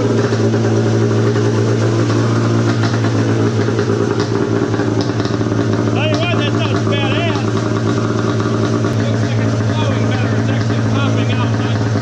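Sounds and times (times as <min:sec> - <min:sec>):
engine idling loudly: 0:00.0 - 0:12.0.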